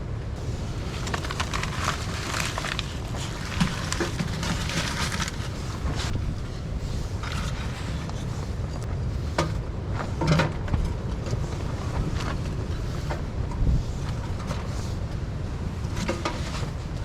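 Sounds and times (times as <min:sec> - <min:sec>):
wind buffeting microphone: 0:00.4 - 0:17.0.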